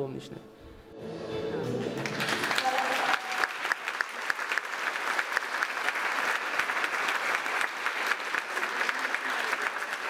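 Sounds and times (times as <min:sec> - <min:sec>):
large audience applauding: 0:01.8 - 0:10.0.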